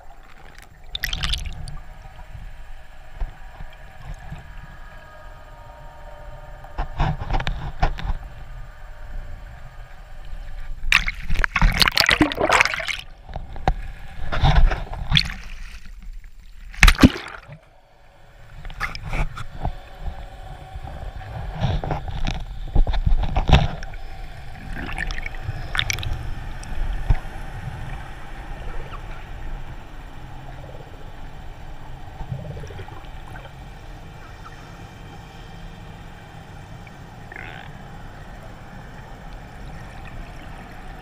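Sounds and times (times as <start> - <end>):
water sloshing and gurgling: 0.0 - 5.0, 10.2 - 41.0.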